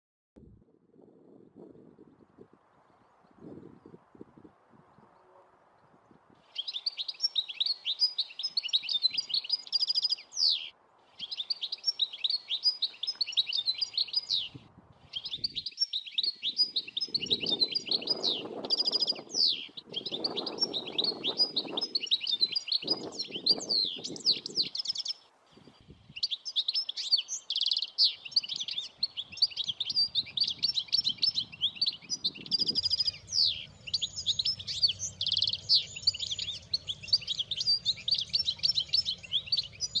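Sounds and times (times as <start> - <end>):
goldfinch twittering song: 6.4 - 40.0.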